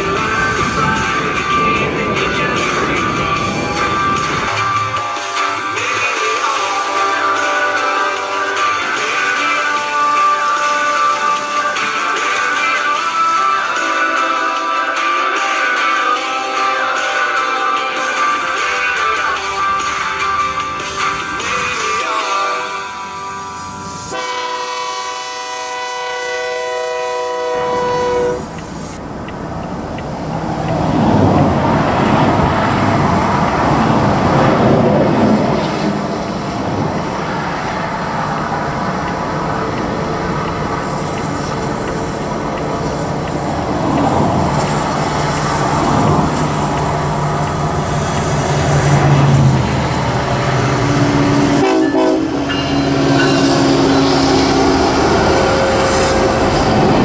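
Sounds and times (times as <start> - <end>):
locomotive horn: 0.0 - 29.0, 38.8 - 57.0
background music: 0.0 - 57.0
locomotive engines running: 0.0 - 57.0
train wheels rolling on rails: 0.0 - 57.0.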